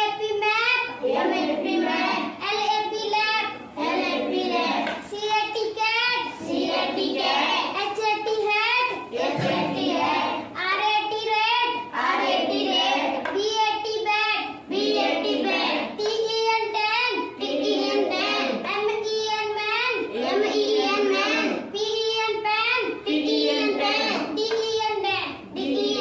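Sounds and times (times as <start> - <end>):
children chanting in sing-song: 0.0 - 26.0.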